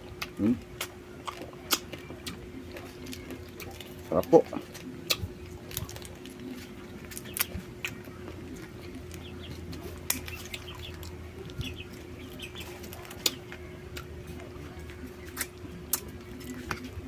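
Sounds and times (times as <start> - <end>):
birds chirping: 0.2 - 17.0
crab shell being chewed: 0.2 - 17.0.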